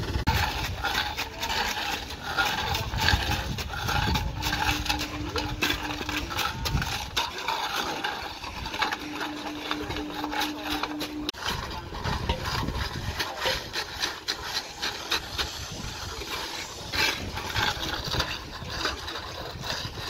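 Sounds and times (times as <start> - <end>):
steady hum: 0.0 - 19.2
shovel scraping wet concrete: 0.0 - 20.0.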